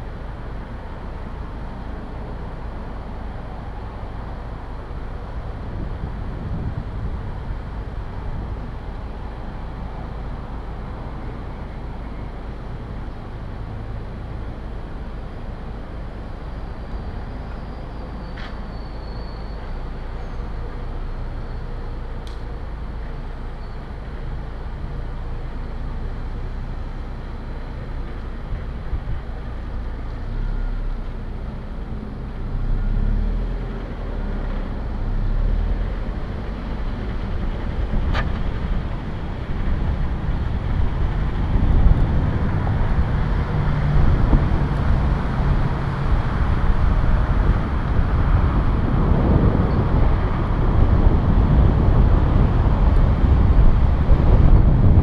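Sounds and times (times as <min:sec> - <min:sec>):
low rumble of road traffic: 0:00.0 - 0:55.0.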